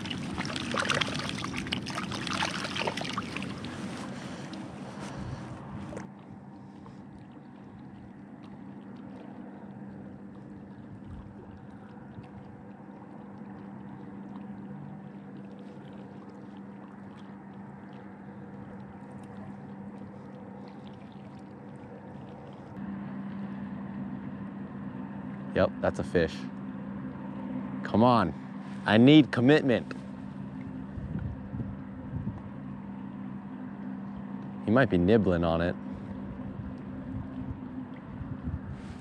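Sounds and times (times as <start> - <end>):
low motor drone: 0.0 - 39.0.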